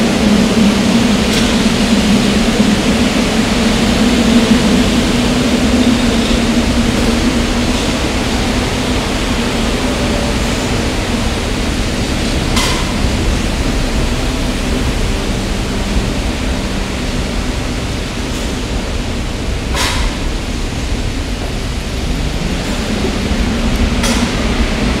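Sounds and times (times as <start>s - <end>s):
low hum: 0.0s - 25.0s
subway train running: 0.0s - 25.0s.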